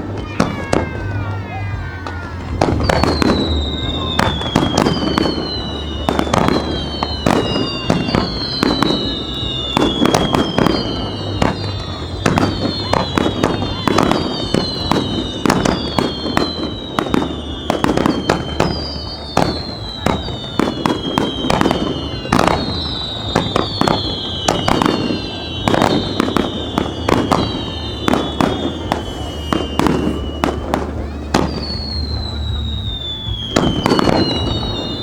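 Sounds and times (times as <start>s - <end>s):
descending firework whistles: 0.0s - 35.0s
firework bursts and crackles: 0.0s - 35.0s.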